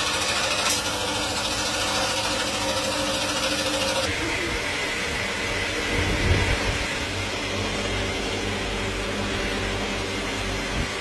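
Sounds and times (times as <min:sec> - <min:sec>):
electric air blower rushing: 0:00.0 - 0:11.0.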